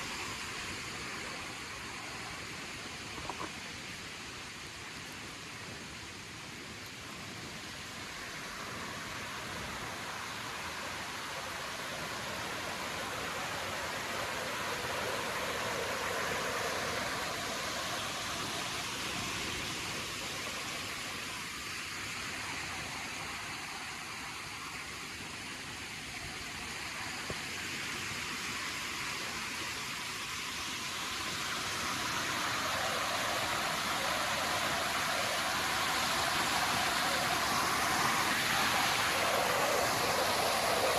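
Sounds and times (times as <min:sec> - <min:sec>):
forest ambience rushing noise: 0:00.0 - 0:40.9.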